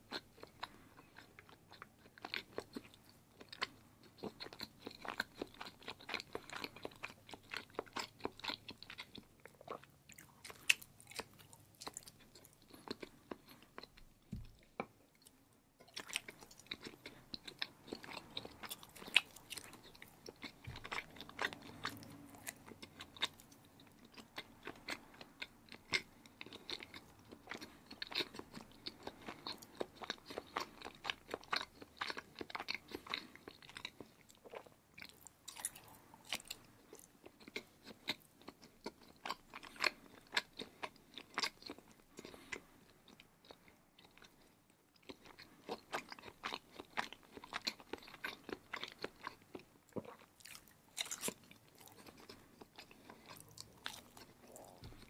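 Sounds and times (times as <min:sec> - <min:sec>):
person chewing cheese: 0:00.0 - 0:55.0.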